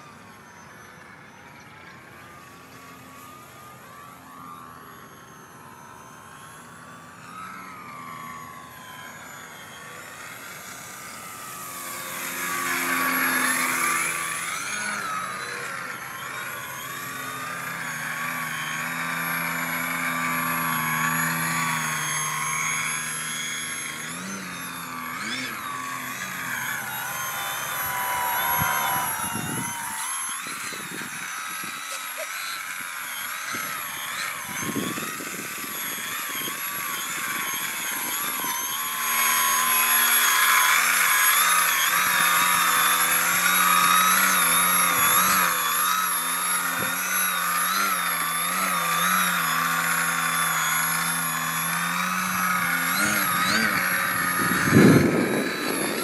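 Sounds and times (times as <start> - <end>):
model plane motor and propeller: 0.0 - 56.0.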